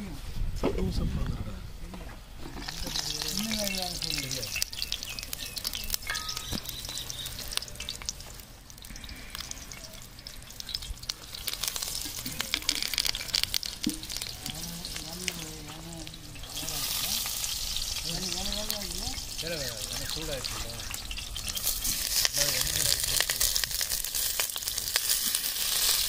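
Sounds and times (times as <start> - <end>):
hot oil sizzling and popping: 2.4 - 26.0.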